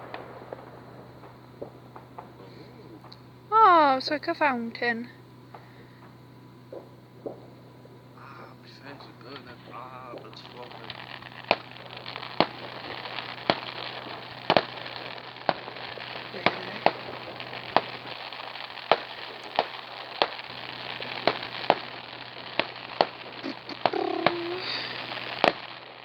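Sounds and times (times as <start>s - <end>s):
firework bangs: 0.0s - 26.0s
fireworks crackling hiss: 0.0s - 26.0s.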